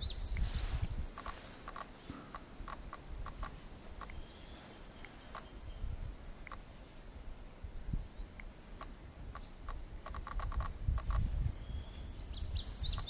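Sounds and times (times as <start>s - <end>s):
bird chirping: 0.0s - 7.3s, 8.1s - 13.0s.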